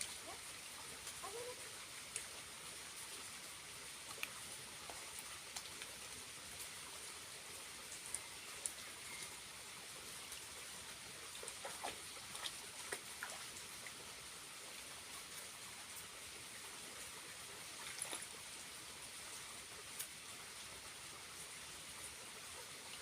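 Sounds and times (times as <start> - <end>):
water drips: 0.0 - 16.6, 17.2 - 20.3
water trickling: 0.0 - 23.0.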